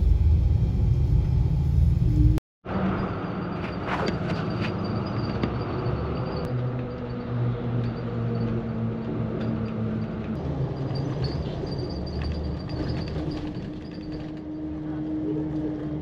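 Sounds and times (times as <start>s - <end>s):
bus engine drone: 0.0s - 16.0s
road noise: 0.0s - 16.0s.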